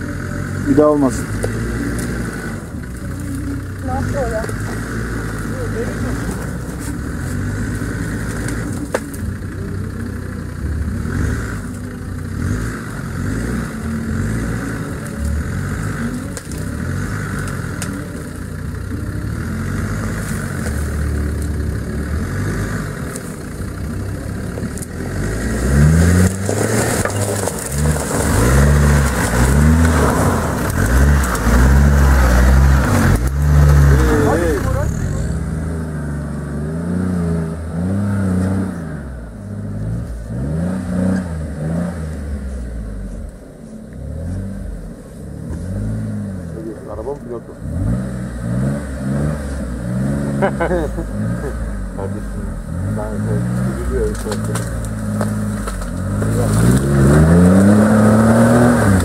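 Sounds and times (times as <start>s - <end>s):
engine running and revving: 0.0s - 59.0s.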